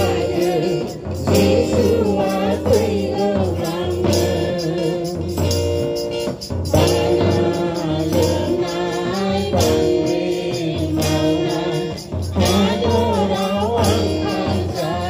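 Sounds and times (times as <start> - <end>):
women singing a hymn: 0.0 - 5.4, 6.8 - 15.0
hand drum beat: 0.0 - 15.0.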